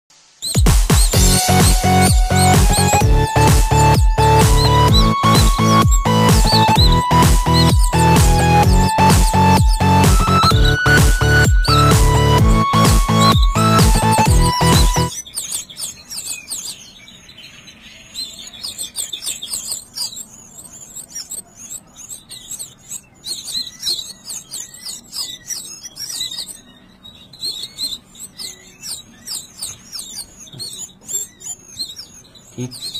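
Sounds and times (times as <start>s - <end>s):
nestling birds chirping: 0.1s - 32.9s.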